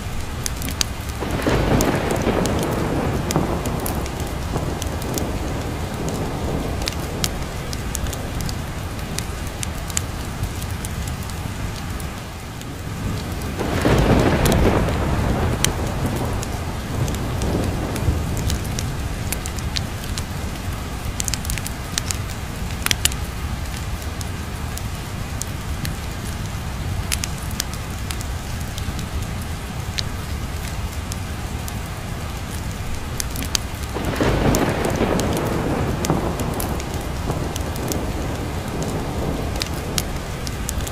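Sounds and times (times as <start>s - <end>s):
log fire crackling: 0.0s - 40.9s
steady rain: 0.0s - 40.9s
thunder rumbling: 0.0s - 40.9s.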